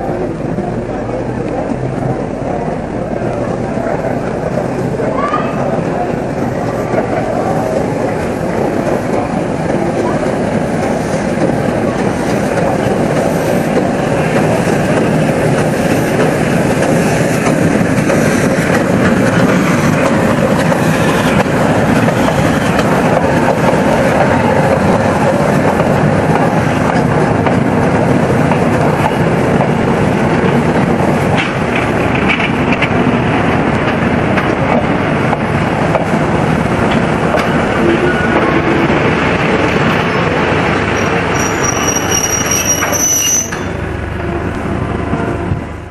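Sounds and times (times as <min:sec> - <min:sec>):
train rolling on rails: 0:00.0 - 0:45.9.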